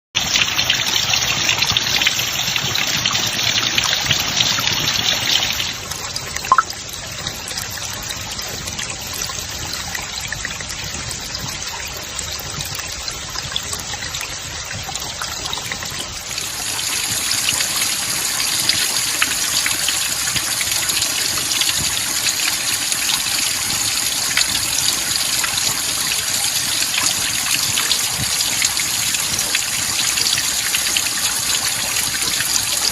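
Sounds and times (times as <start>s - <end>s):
running water: 0.2s - 32.9s.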